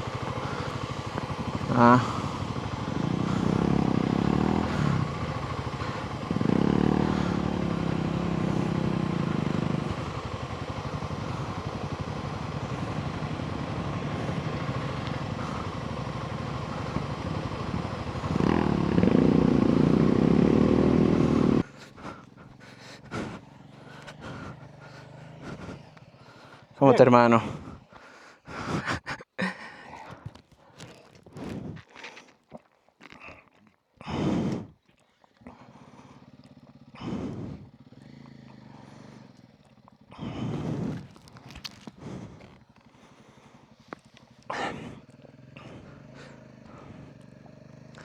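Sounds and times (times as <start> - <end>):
motorcycle engine surging: 0.0 - 29.2, 34.0 - 48.0.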